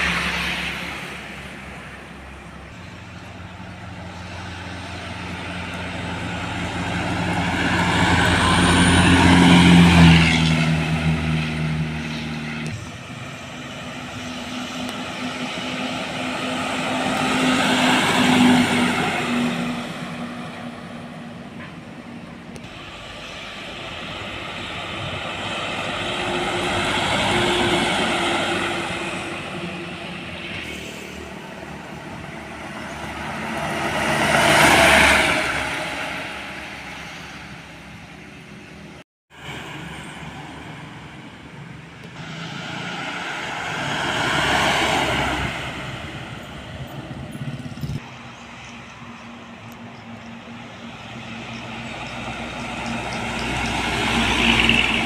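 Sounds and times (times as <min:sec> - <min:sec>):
vehicles passing by: 0:00.0 - 0:55.0.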